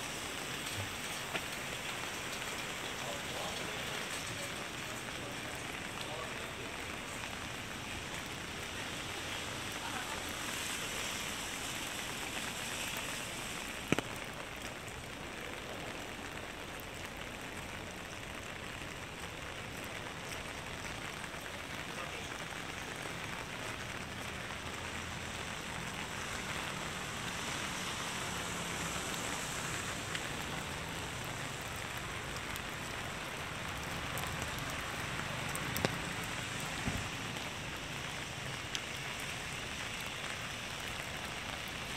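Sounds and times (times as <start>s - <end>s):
rain on pavement and puddles: 0.0s - 41.9s.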